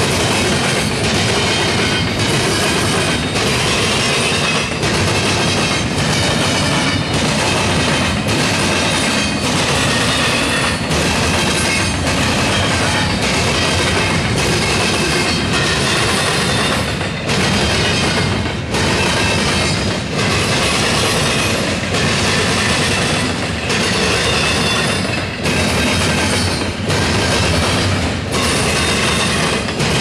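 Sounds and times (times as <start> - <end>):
clickety-clack from the track: 0.0 - 30.0
train cars rolling on steel wheels: 0.0 - 30.0.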